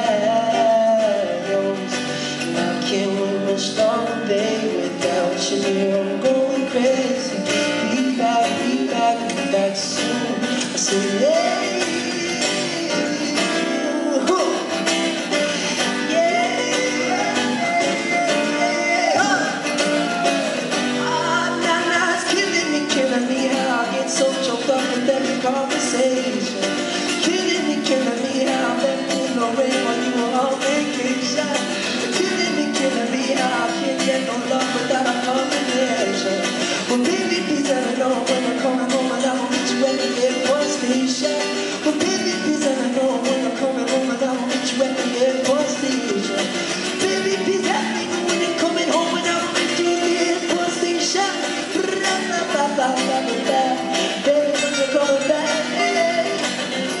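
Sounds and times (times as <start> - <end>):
acoustic guitar: 0.0 - 57.0
man singing: 0.0 - 57.0.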